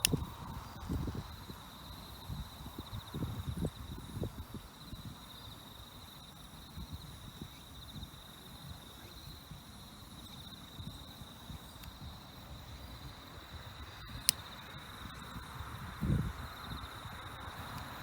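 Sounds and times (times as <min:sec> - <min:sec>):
insect trilling: 0:00.0 - 0:18.0.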